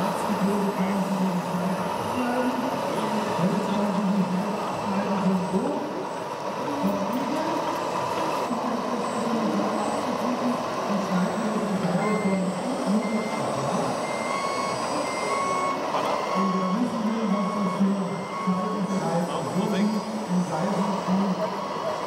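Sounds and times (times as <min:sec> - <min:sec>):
imitation diesel engine running: 0:00.0 - 0:22.0
reversing beeper: 0:02.0 - 0:22.0.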